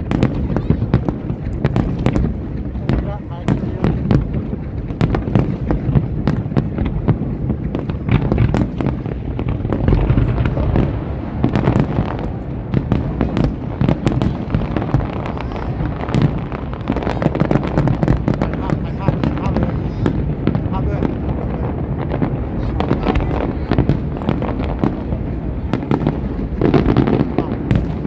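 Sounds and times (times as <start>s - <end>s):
deep rumble: 0.0s - 28.0s
fireworks bursting and crackling: 0.0s - 28.0s.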